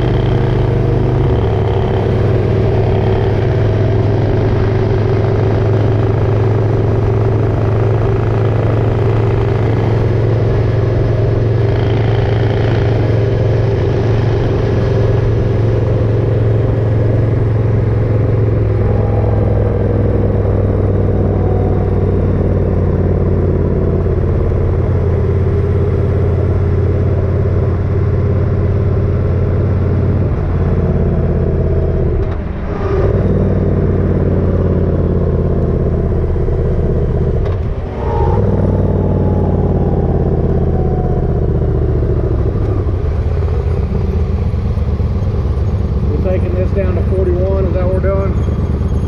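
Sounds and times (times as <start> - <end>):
motorcycle engine running: 0.0 - 49.0
road noise: 0.0 - 49.0.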